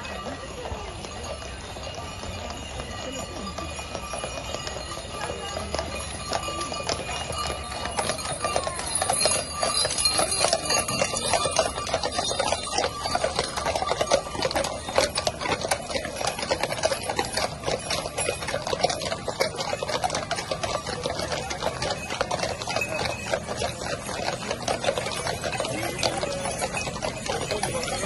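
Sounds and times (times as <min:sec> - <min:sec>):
horse hooves clopping on asphalt: 0:00.0 - 0:28.0
chains rattling: 0:00.1 - 0:28.0.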